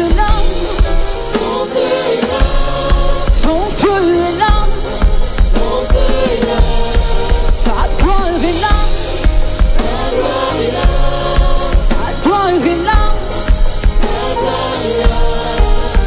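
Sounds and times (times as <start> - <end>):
drum kit beat: 0.0 - 16.0
held chords: 0.0 - 16.0.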